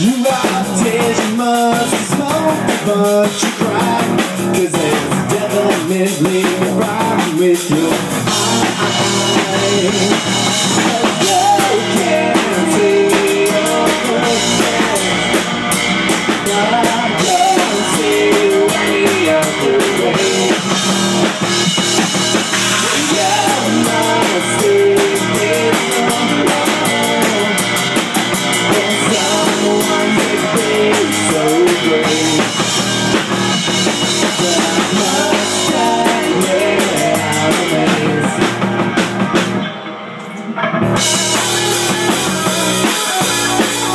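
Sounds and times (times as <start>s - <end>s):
drum kit: 0.0s - 43.9s
electric guitar: 0.0s - 43.9s
keyboard: 0.0s - 43.9s.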